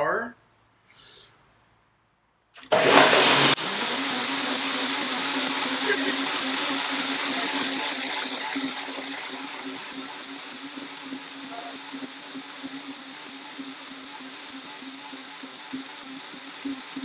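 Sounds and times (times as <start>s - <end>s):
blenders chopping vegetables: 2.6s - 17.0s.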